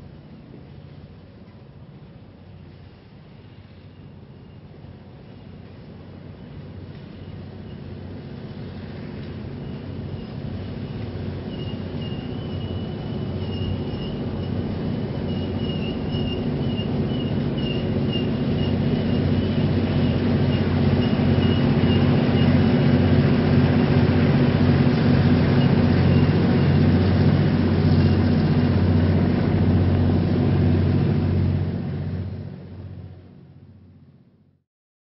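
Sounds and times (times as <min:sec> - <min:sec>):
model train rumbling hum: 0:00.0 - 0:34.6.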